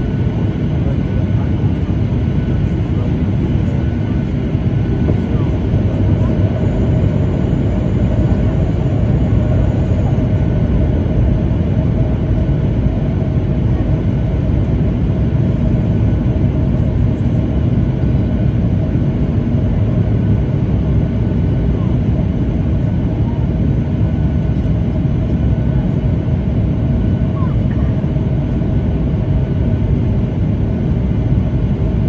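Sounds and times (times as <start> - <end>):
jet cabin engine rumble: 0.0 - 32.0.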